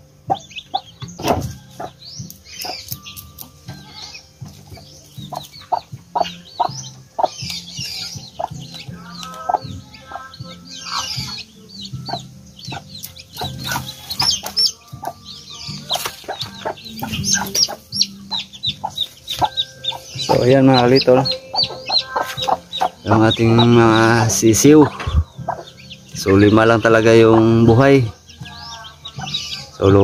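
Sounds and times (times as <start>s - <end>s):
chicks peeping: 0.0s - 30.0s
hen clucking: 0.0s - 30.0s.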